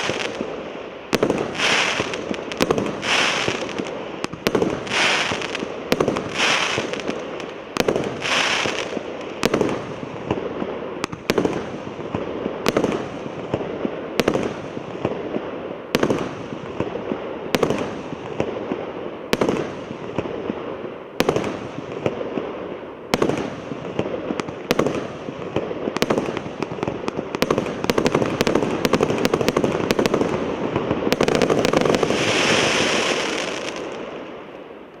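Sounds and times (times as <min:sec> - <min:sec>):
fireworks bangs: 0:00.0 - 0:34.5
fireworks crackling: 0:00.0 - 0:35.0.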